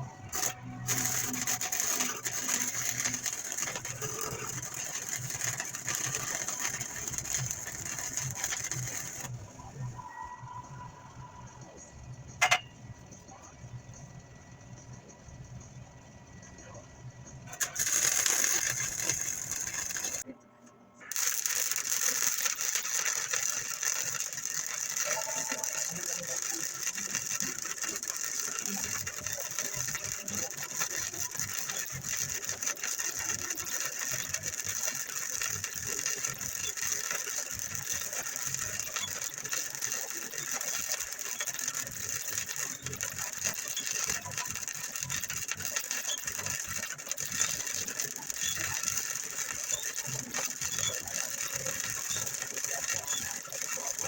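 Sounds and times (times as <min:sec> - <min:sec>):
arc welding crackling sizzle: 0:00.0 - 0:10.5, 0:17.5 - 0:20.3, 0:21.0 - 0:54.0.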